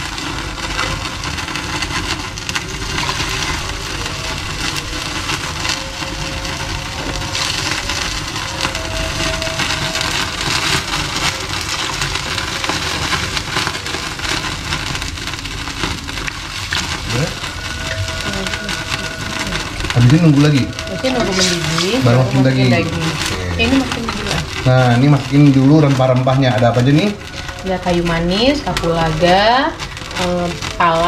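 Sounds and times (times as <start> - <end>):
broth crackling and sizzling in pot: 0.0 - 31.0.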